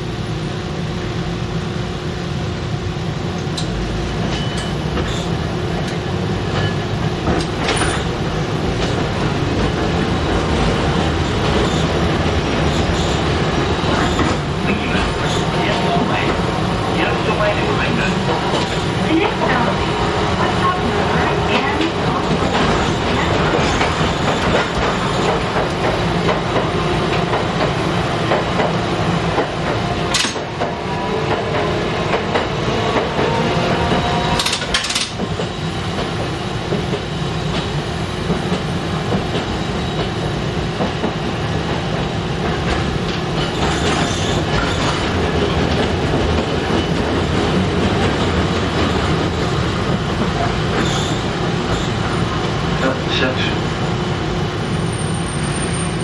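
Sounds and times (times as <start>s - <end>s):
streetcar rumble: 0.0s - 56.0s.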